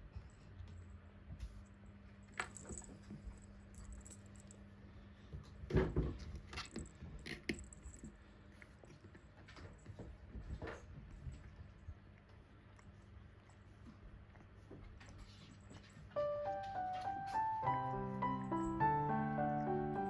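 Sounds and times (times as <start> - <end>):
cats moving and grooming: 0.0 - 20.0.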